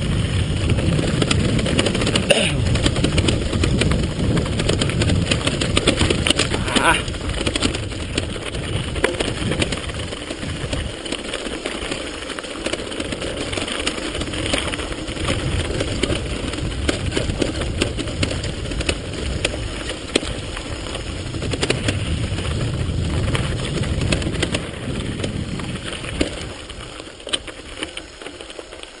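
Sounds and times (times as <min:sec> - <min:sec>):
wind on microphone: 0:00.0 - 0:11.0, 0:14.3 - 0:27.0
bike frame rattling: 0:00.0 - 0:29.0
tyres crunching over stones: 0:00.0 - 0:29.0.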